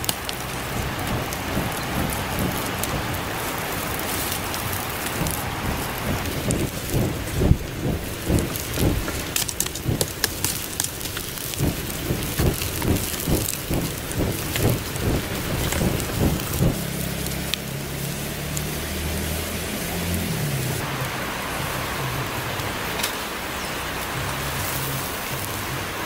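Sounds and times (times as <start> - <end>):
leaves rustling and crackling: 0.0 - 26.0.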